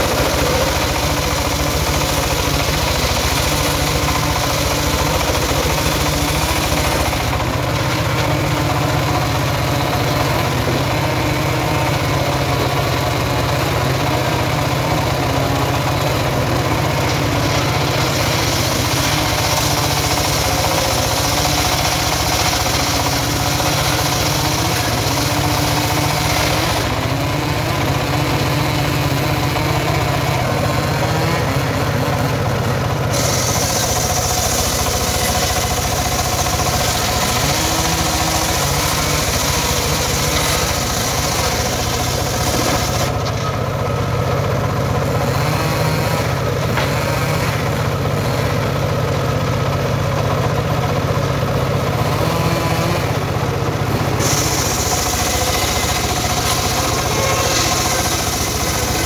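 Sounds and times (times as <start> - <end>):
saw blade ripping timber: 0.0 - 32.5, 33.1 - 43.5, 53.8 - 59.0
diesel engine running: 0.0 - 59.0.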